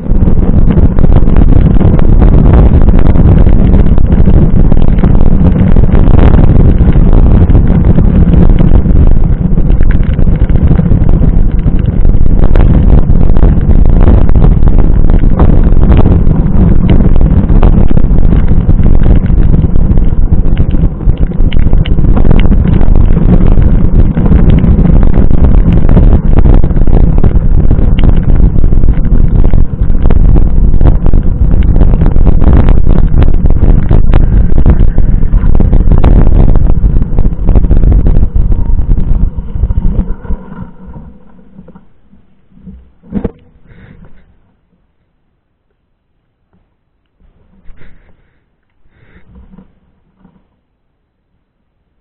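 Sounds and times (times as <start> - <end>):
wind and rain on microphone: 0.0 - 52.0.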